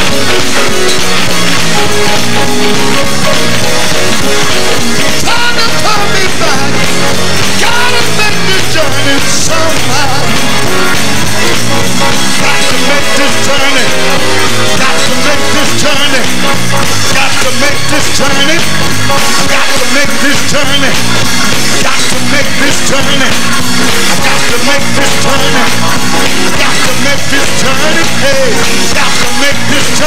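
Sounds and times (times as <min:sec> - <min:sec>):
gospel choir singing with band: 0:00.0 - 0:30.0.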